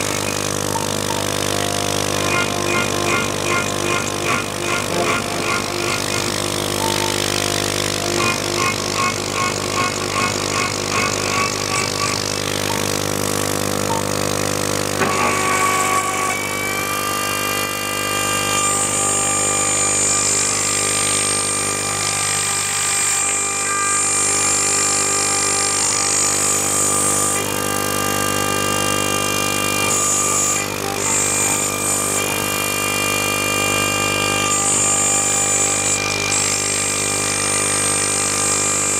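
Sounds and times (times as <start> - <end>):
router spindle whining: 0.0 - 38.9
stepper motor tones: 0.0 - 38.9.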